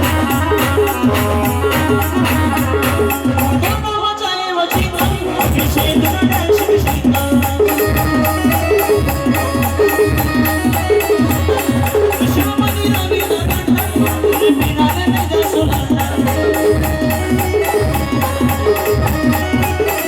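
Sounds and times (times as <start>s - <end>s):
rattling percussion: 0.0s - 4.0s, 4.7s - 20.0s
band playing folk melody: 0.0s - 20.0s
steady drumbeat: 0.0s - 20.0s.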